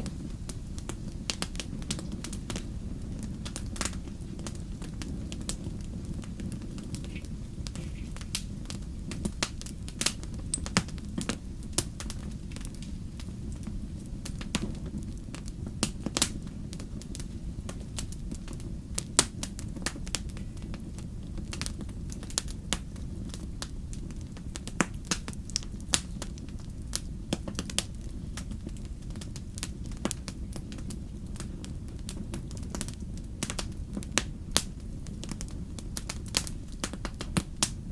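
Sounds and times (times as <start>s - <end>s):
low rumble of flames: 0.0s - 37.9s
wood fire crackling and popping: 0.0s - 37.9s.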